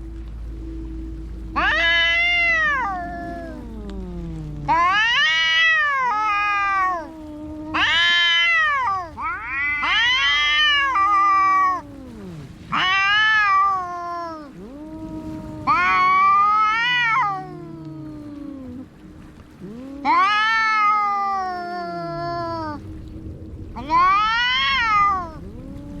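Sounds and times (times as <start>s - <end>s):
cats yowling: 1.5s - 23.0s, 23.8s - 26.0s
low cat growl: 1.5s - 23.1s, 23.7s - 26.0s.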